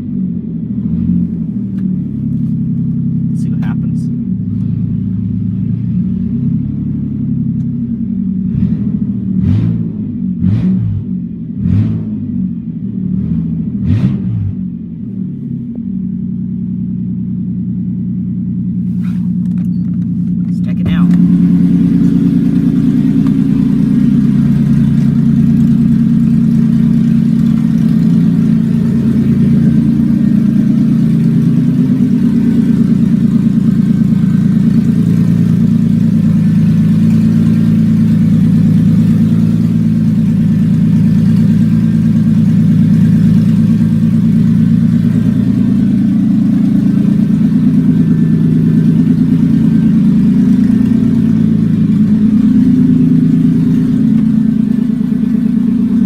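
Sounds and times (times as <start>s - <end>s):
car engine idling loudly: 0.0s - 56.0s.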